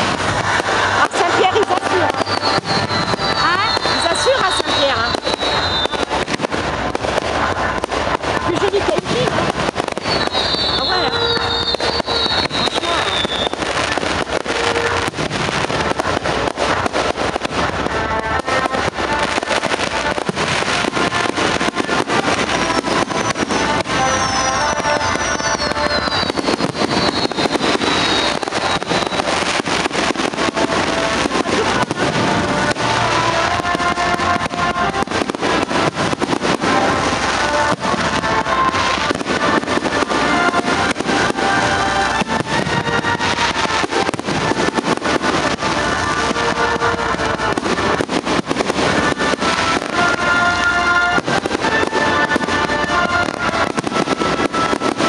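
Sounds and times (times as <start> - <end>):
falling firework whistle: 0.0 - 6.6, 7.9 - 16.1, 16.8 - 55.0
fireworks bangs and crackles: 0.0 - 55.0
music with long held notes: 0.0 - 55.0.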